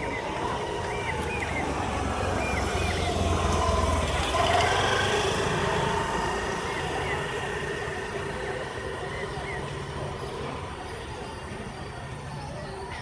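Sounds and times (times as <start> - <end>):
vehicle engine rumble passing: 0.0 - 12.2.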